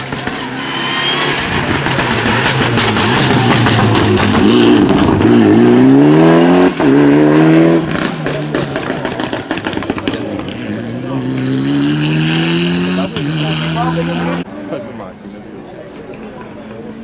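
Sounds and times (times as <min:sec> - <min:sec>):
rally car engine accelerating: 0:00.0 - 0:14.5.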